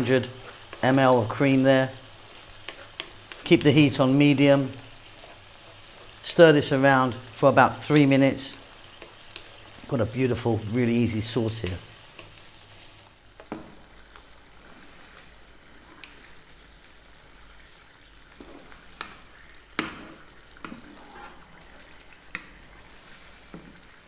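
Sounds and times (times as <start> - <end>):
wooden spoon scraping a pan: 0.0 - 13.8, 18.2 - 24.0
sauce simmering in a pan: 0.0 - 24.0.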